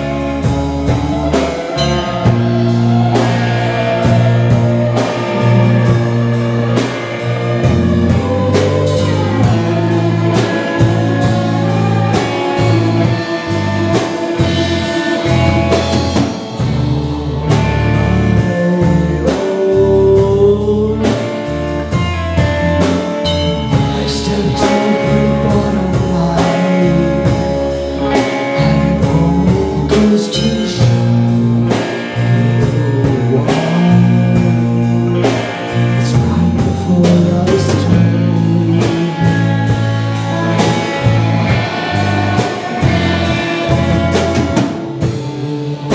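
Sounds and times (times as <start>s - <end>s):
distorted electric guitars: 0.0s - 45.9s
drum kit: 0.0s - 45.9s.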